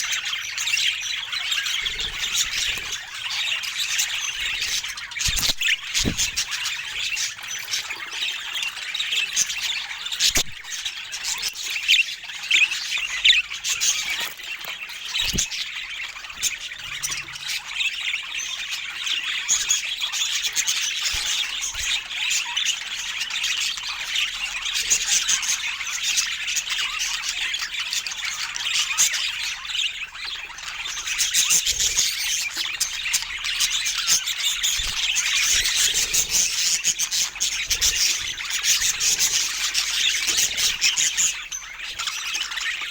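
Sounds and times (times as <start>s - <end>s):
budgerigars chattering and squawking: 0.0s - 42.9s.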